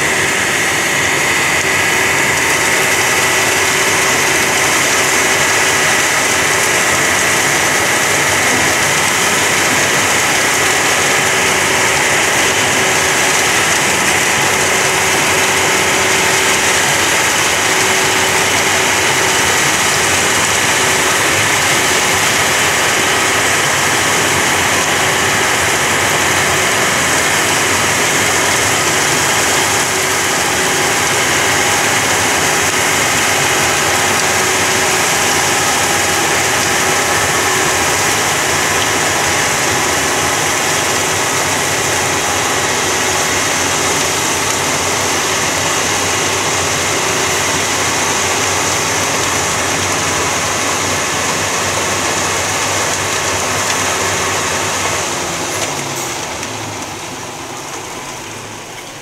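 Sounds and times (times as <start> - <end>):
snow blower hissing: 0.0 - 58.7
diesel engine running under load: 0.0 - 59.0.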